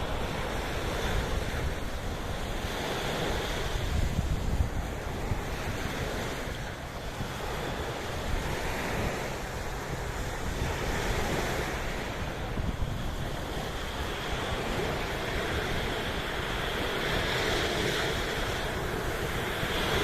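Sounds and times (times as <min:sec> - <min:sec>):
sea waves washing in: 0:00.0 - 0:20.0
wind buffeting microphone: 0:00.0 - 0:20.0.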